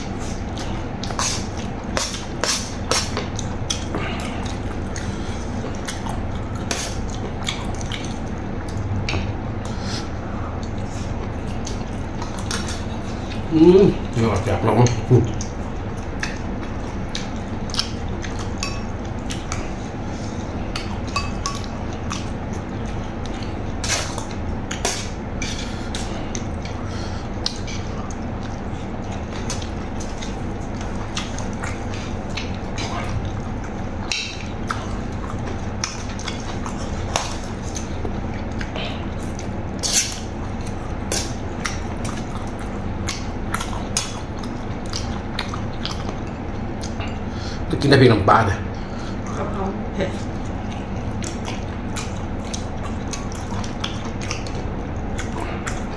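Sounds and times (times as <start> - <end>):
steady low hum: 0.0 - 55.9
wet eating sounds: 0.0 - 55.9.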